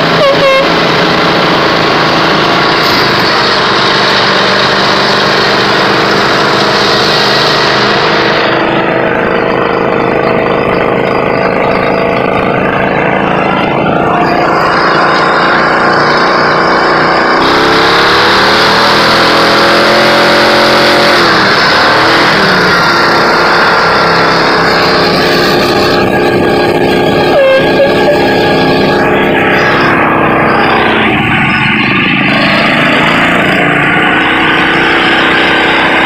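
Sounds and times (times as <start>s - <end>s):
riding lawn mower engine: 0.0s - 36.0s.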